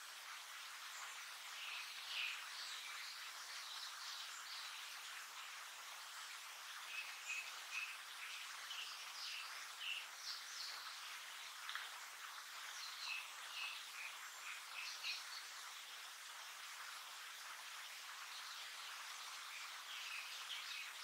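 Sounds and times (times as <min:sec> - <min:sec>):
background hiss: 0:00.0 - 0:21.0.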